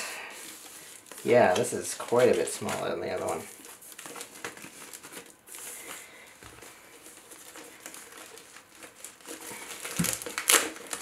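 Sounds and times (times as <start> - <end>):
plastic bag crinkling: 0.2 - 11.0.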